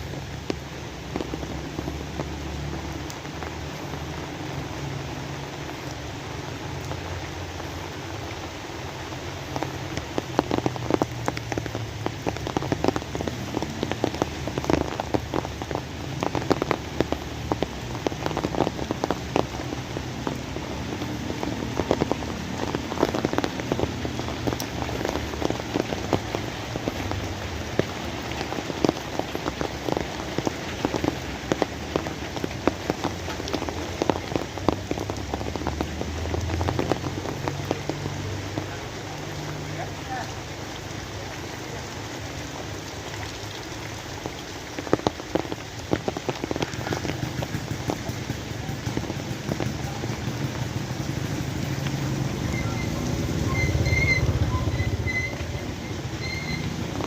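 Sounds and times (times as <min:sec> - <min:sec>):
raindrops tapping a surface: 0:00.0 - 0:57.0
steady rain falling: 0:00.0 - 0:57.0.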